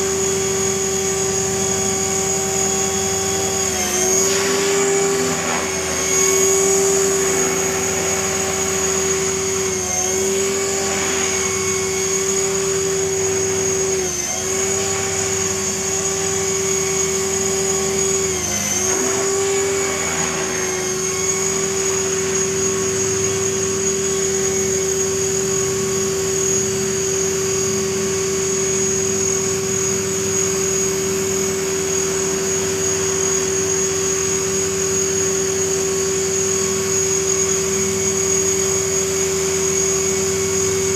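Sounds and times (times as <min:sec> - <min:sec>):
rc helicopter motor and rotors whining: 0:00.0 - 0:40.9.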